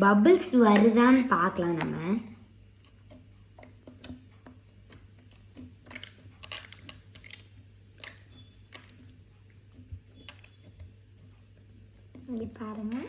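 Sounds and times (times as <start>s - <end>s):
slime clicking and crackling: 0.4s - 13.0s.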